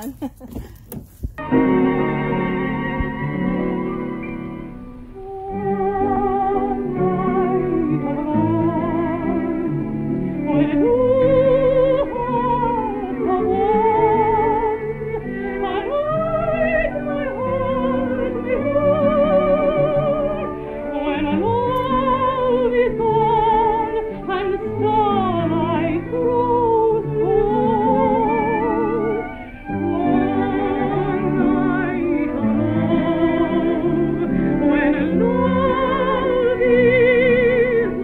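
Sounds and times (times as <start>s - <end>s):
orchestral accompaniment: 1.4s - 38.0s
operatic soprano singing: 5.2s - 38.0s.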